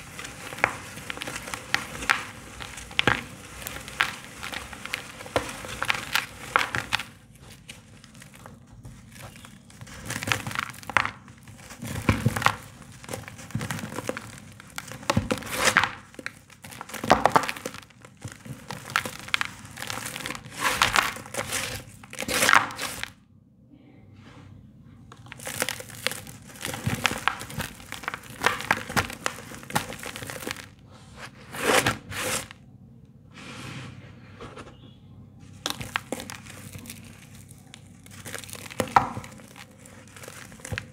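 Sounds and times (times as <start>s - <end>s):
cement chunks crunching: 0.0s - 23.2s, 25.1s - 32.6s, 34.6s - 40.9s.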